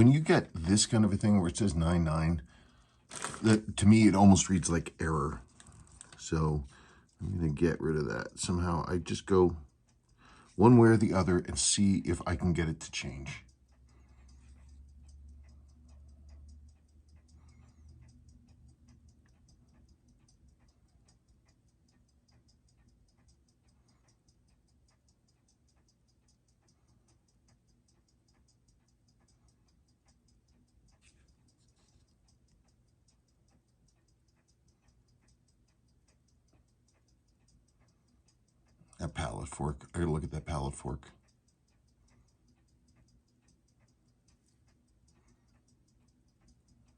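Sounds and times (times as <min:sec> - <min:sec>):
watch ticking: 0:00.0 - 0:46.9.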